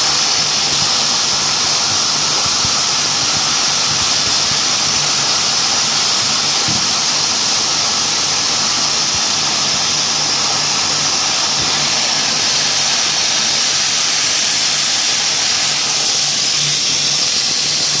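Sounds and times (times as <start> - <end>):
low machine hum: 0.0 - 18.0
spinning machine whirring: 0.0 - 18.0.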